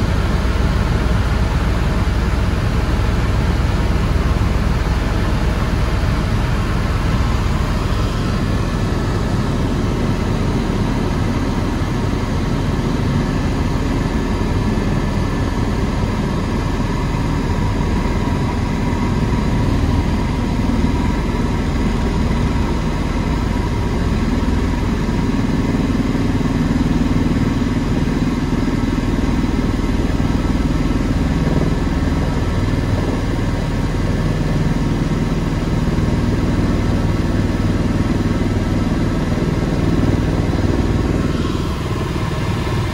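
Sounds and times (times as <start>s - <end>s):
helicopter engine and rotor drone: 0.0s - 42.9s.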